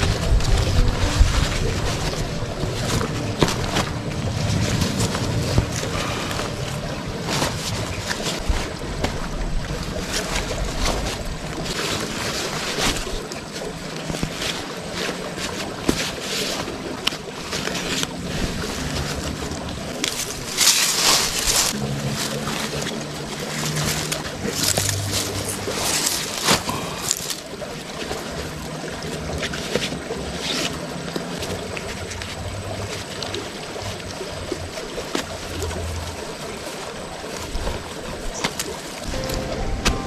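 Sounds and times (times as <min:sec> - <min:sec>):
water sloshing and splashing: 0:00.0 - 0:40.0.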